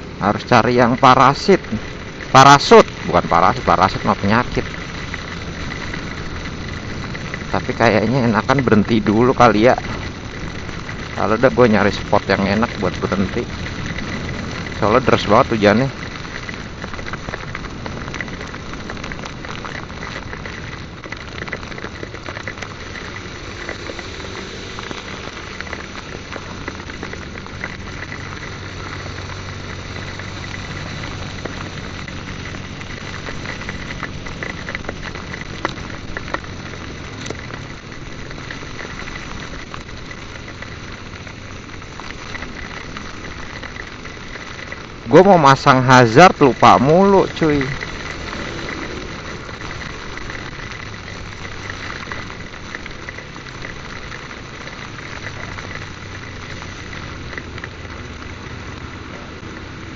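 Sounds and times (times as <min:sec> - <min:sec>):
heavy rain: 0:00.0 - 0:59.9
faint motorcycle engine running: 0:00.8 - 0:59.9.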